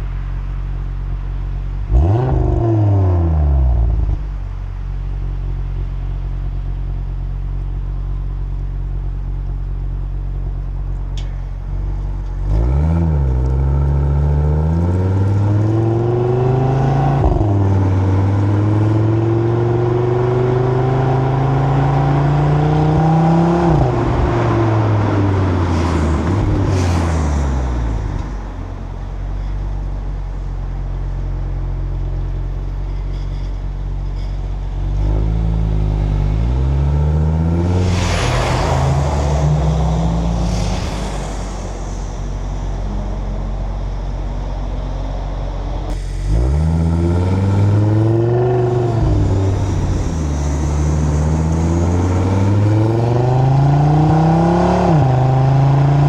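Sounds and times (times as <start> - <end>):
car exhaust accelerating: 0.0 - 32.8, 34.7 - 56.0.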